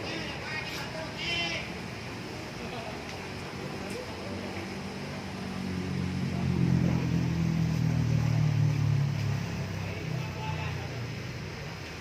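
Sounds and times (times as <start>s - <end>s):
motor engine humming low: 1.8s - 12.0s.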